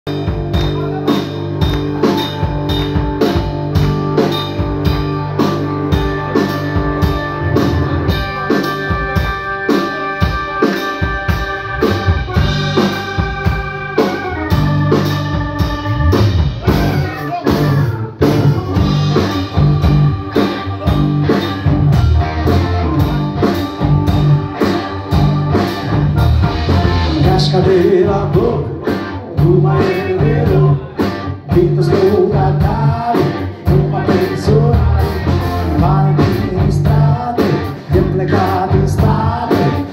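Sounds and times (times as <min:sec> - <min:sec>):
bass guitar: 0:00.0 - 0:39.9
drum kit beat: 0:00.1 - 0:39.9
electric guitar: 0:00.1 - 0:39.9.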